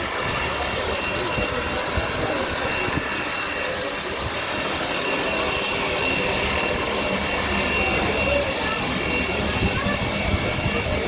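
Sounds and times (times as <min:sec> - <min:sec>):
locomotive steam hissing: 0:00.0 - 0:11.0
thin high tone: 0:00.0 - 0:11.0.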